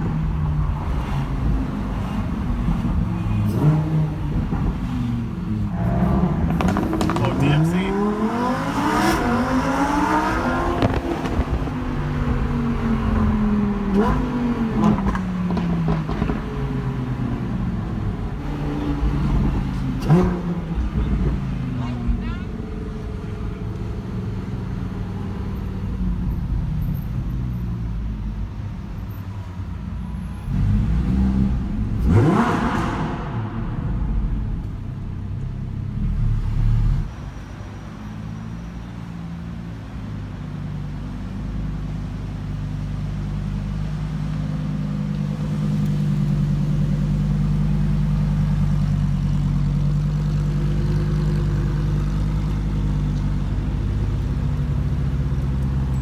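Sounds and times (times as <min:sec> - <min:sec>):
sports car engine revving: 0:00.0 - 0:37.1, 0:41.7 - 0:56.0.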